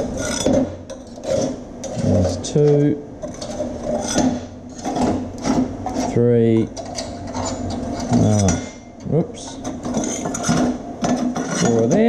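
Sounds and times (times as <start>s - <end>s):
steel pick scraping steel: 0.0s - 2.4s, 3.2s - 8.7s, 9.5s - 12.0s.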